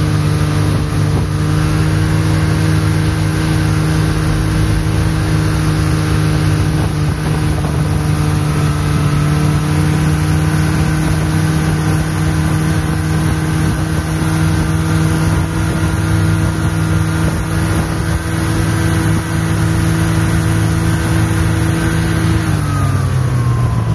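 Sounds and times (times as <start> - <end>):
snowmobile engine running: 0.0 - 23.9.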